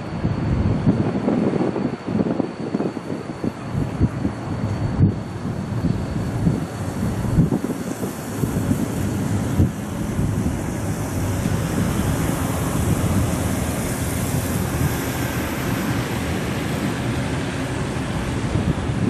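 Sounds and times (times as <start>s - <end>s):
train rumbling over a bridge: 0.0s - 19.0s
wind buffeting the microphone: 0.0s - 19.0s.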